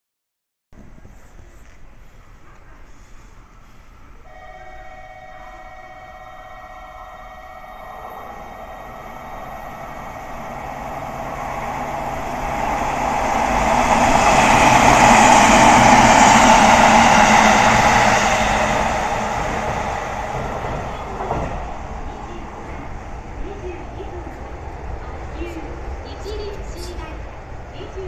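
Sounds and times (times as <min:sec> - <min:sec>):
train passing: 0:01.0 - 0:28.0.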